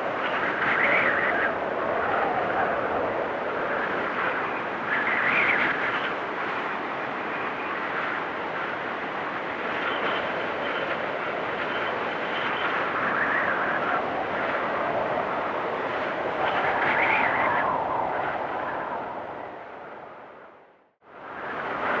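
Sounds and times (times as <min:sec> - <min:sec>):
blizzard wind gusting: 0:00.0 - 0:22.0
whistling wind: 0:00.0 - 0:22.0.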